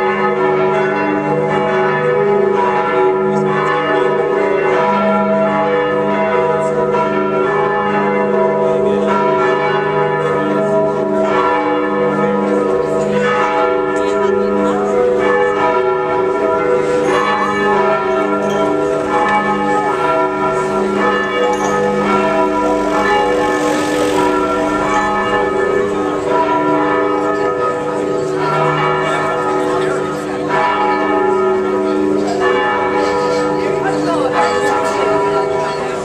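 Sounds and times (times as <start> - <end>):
church bells pealing: 0.0 - 36.0.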